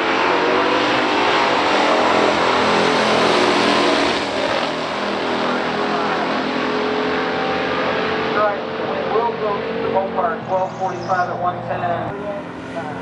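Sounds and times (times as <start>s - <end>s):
cars accelerating at full throttle: 0.0s - 13.0s.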